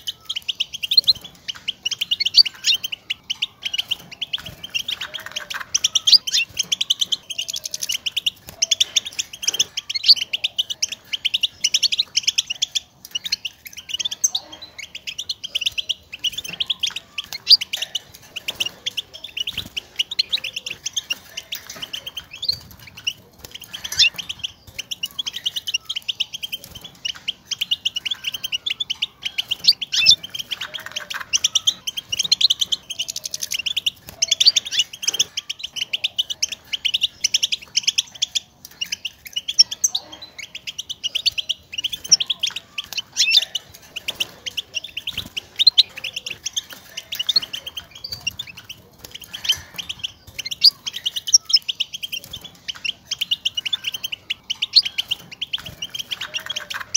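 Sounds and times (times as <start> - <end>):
goldfinch twittering: 0.0 - 56.9.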